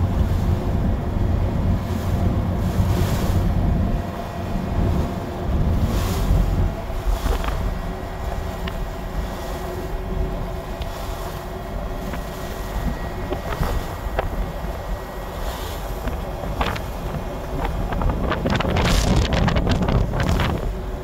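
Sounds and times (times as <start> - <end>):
boat engine drone: 0.0 - 21.0
wind buffeting microphone: 0.0 - 21.0.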